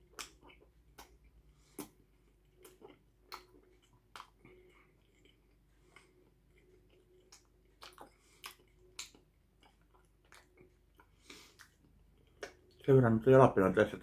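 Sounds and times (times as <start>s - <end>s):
mouth clicks and smacks: 0.0s - 12.9s
person chewing quietly: 0.0s - 13.5s.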